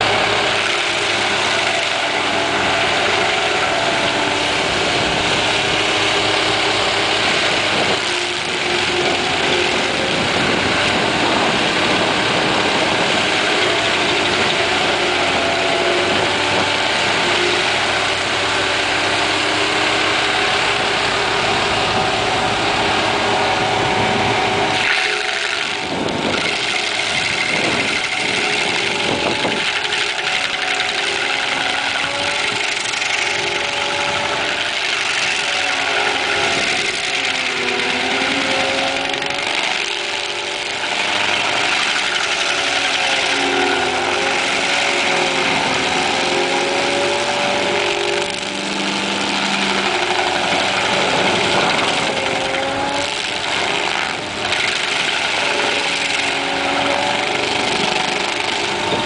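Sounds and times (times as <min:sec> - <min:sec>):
stump grinder engine running: 0:00.0 - 0:59.0.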